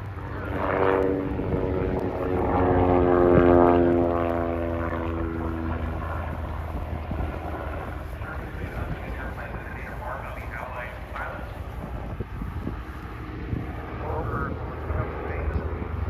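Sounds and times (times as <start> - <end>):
propeller plane engine flyby: 0.0 - 16.0.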